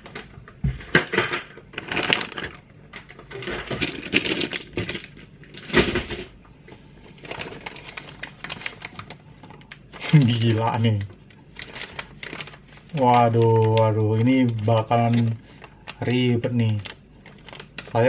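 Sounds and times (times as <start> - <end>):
plastic bags crinkling: 1.6 - 18.0.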